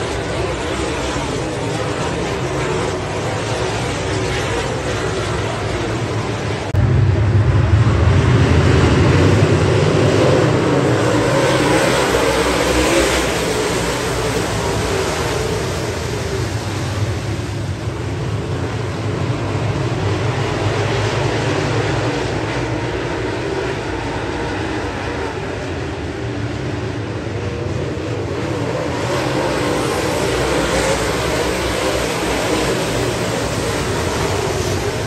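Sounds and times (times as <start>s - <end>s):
race car engines at speed: 0.0s - 35.0s.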